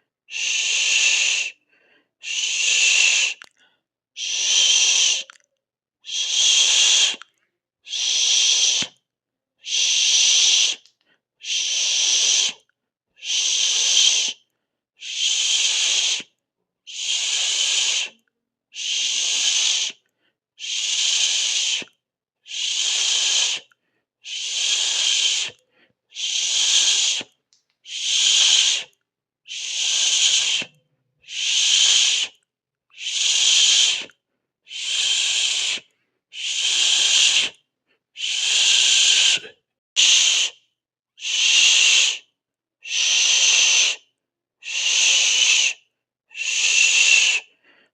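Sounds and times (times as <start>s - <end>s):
person hissing through teeth: 0.3s - 1.6s, 2.2s - 3.5s, 4.2s - 5.4s, 6.0s - 7.3s, 7.9s - 9.0s, 9.6s - 12.6s, 13.2s - 14.4s, 15.0s - 16.3s, 16.9s - 20.0s, 20.6s - 37.6s, 38.2s - 40.6s, 41.2s - 47.6s.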